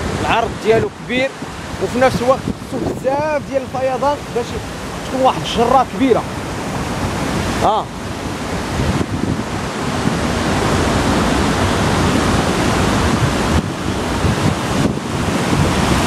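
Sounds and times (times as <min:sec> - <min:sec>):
water rushing over stones: 0:00.0 - 0:16.0
wind buffeting microphone: 0:00.0 - 0:16.0.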